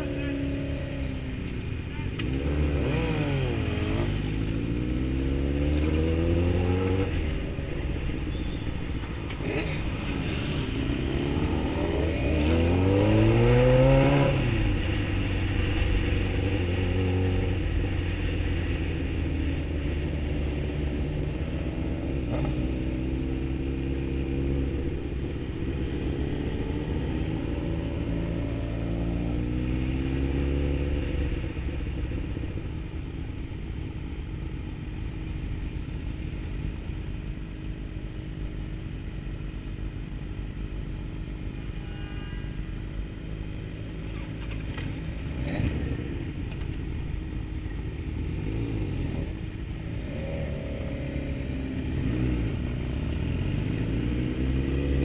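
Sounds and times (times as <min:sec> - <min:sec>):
motorcycle engine accelerating: 0:00.0 - 0:37.0, 0:43.9 - 0:55.0.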